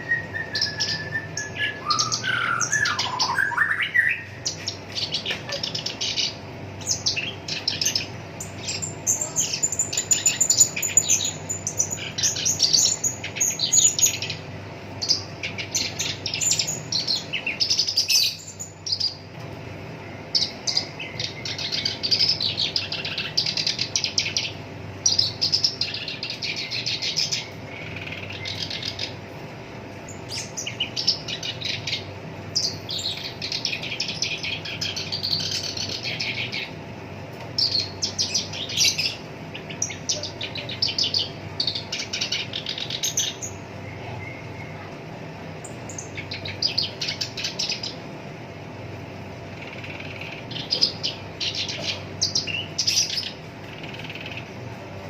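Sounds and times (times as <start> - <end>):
reed warbler singing: 0.0 - 19.3, 20.0 - 29.3, 29.9 - 44.8, 45.5 - 48.1, 48.8 - 55.0.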